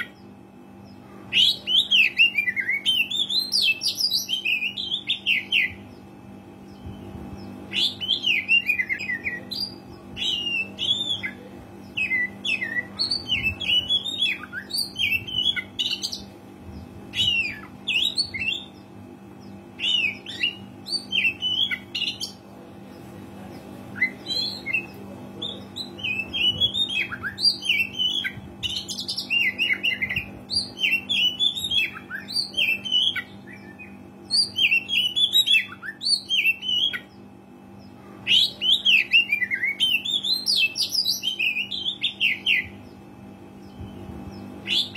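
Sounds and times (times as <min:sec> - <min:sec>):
bird song: 0:00.0 - 0:44.9
faint low hum: 0:00.0 - 0:44.9.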